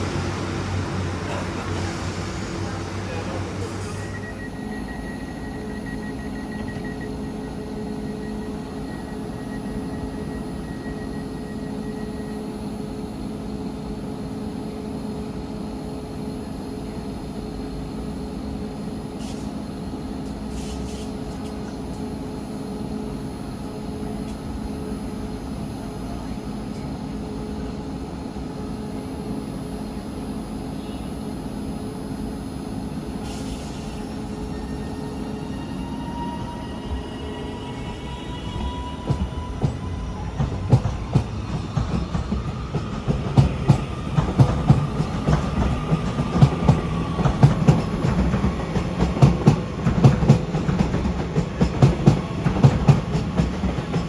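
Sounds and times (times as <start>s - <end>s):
train engine low hum: 0.0s - 54.0s.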